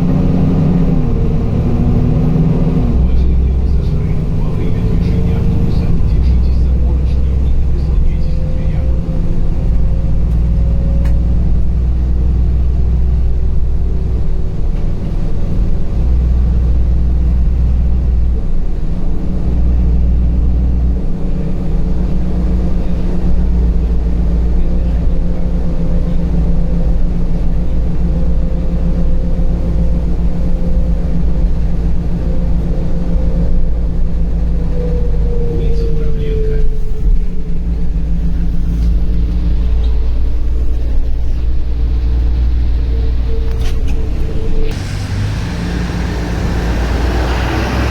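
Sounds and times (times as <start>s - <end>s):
bus engine and road rumble: 0.0s - 47.9s
faint whine: 2.9s - 47.9s.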